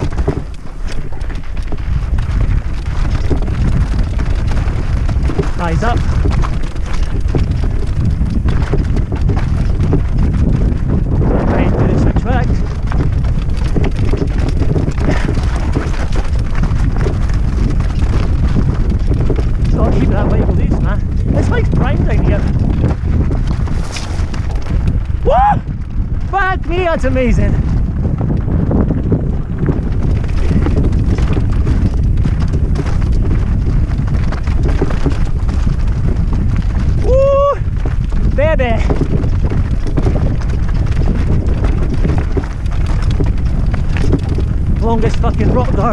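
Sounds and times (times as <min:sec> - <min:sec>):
mountain bike rattling over rocks: 0:00.0 - 0:45.9
wind rumble on microphone: 0:00.0 - 0:45.9.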